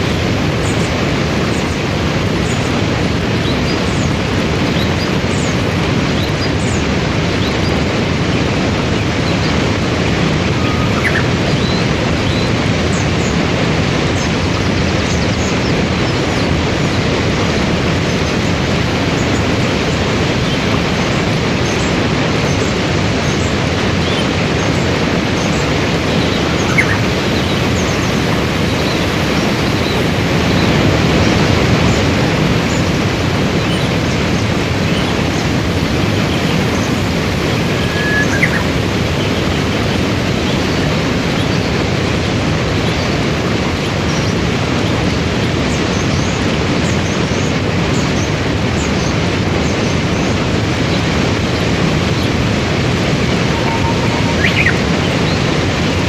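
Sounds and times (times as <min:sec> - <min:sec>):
bird chirping: 0:00.0 - 0:13.4, 0:14.0 - 0:41.8, 0:52.0 - 0:56.0
waterfall and rapids rushing: 0:00.0 - 0:56.0.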